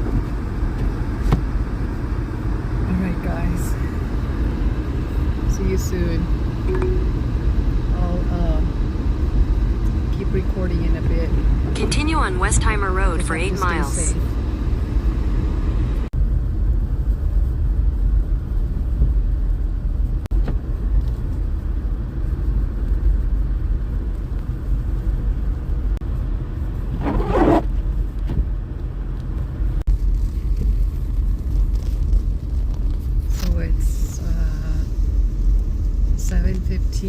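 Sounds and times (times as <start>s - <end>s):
car interior engine rumble: 0.0s - 37.0s.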